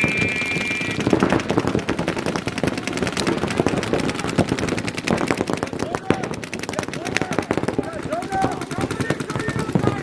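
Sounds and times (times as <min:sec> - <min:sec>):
paintball markers firing: 0:01.0 - 0:10.0.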